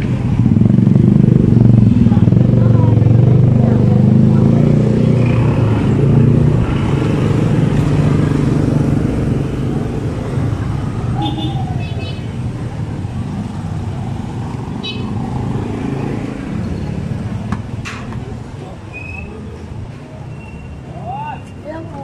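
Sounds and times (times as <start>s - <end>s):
motor vehicle engine running: 0.0s - 20.0s.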